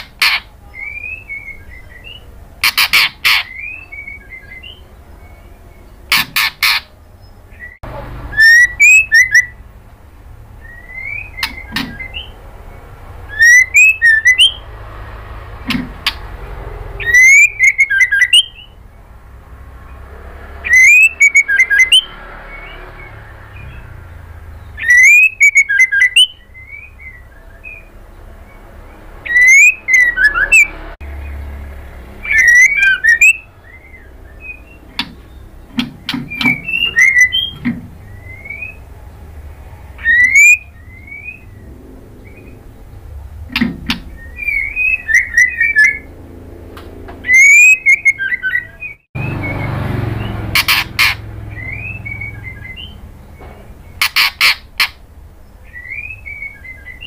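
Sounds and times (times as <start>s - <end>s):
bird singing whistled notes: 0.2s - 9.6s, 10.6s - 14.7s, 16.9s - 18.8s, 20.6s - 39.2s, 40.0s - 43.2s, 43.9s - 46.1s, 47.2s - 57.0s.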